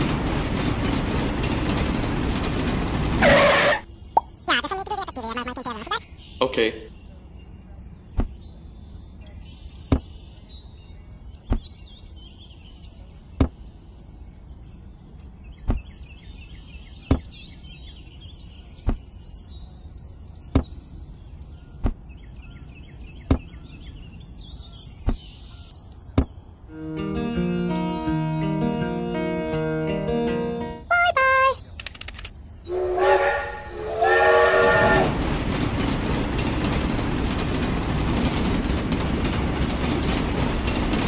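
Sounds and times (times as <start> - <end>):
birds chirping: 3.9 - 27.0, 28.0 - 41.0.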